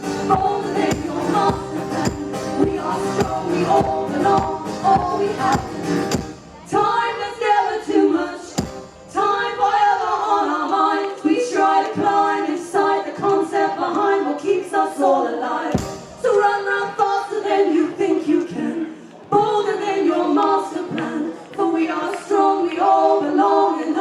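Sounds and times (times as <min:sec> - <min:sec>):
voices singing: 0:00.0 - 0:24.0.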